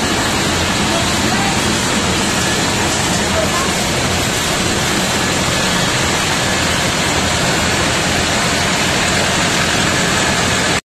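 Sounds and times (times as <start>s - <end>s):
rice mill machinery din: 0.0s - 10.8s.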